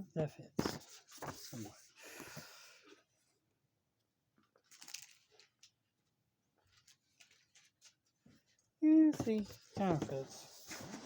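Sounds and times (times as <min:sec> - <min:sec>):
faint rustle of packaging: 0:00.6 - 0:03.4, 0:04.4 - 0:11.0.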